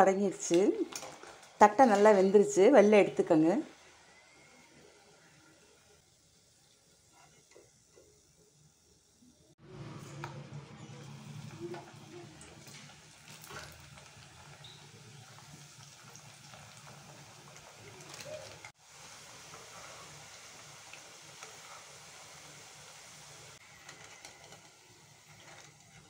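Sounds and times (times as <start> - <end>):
frying in oil with crackles: 0.0 - 26.0.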